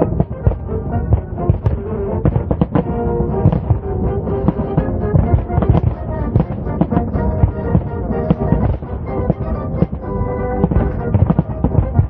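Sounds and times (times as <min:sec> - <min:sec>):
fireworks bursts: 0:00.0 - 0:12.0
music: 0:00.0 - 0:12.0.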